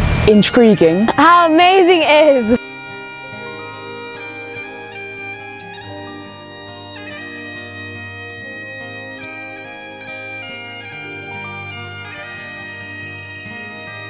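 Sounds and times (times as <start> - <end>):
bagpipe melody over drone: 0.0 - 14.0.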